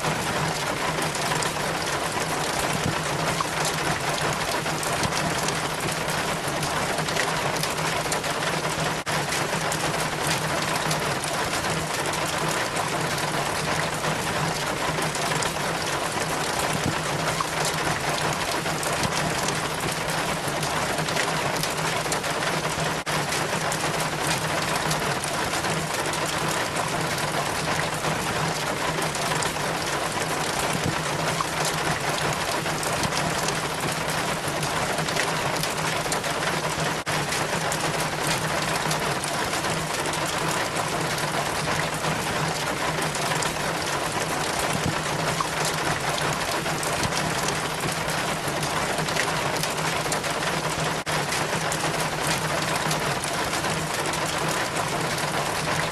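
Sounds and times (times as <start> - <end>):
water trickling down rain chain: 0.0 - 55.9.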